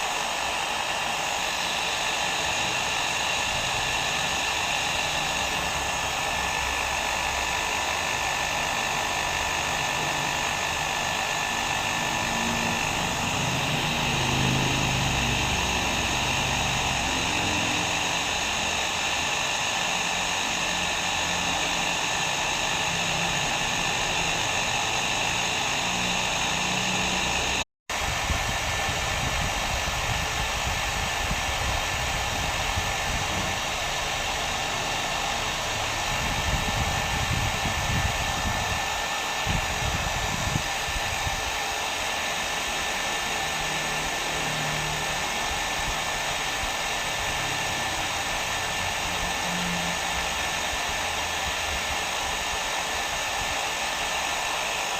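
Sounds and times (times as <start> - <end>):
hair dryer running: 0.0 - 54.9.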